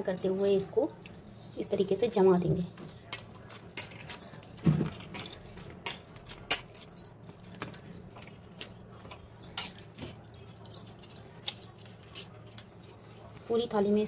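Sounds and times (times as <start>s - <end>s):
light clicks and metallic clinks: 0.0s - 1.8s, 2.8s - 14.0s.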